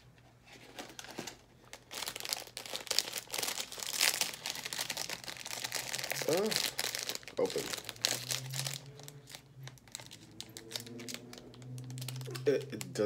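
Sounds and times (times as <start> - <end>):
foil wrapper crinkling: 0.7 - 13.0.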